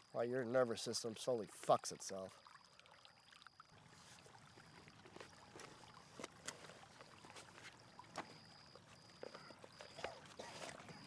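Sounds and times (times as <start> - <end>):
faint high steady tone: 0.0 - 11.0.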